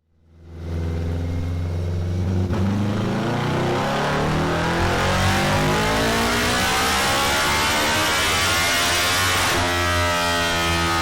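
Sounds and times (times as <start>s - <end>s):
motorcycle engine revving on dyno: 0.6s - 11.0s.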